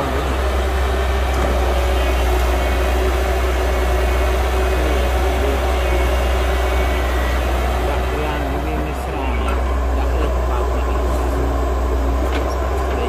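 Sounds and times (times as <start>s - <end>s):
diesel machinery engine hum: 0.0s - 13.0s
faint steady whine: 0.0s - 13.0s.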